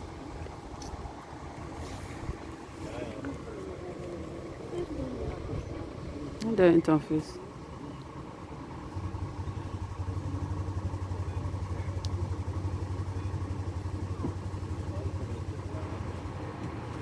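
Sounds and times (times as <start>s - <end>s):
bus engine throbbing: 0.0s - 17.0s.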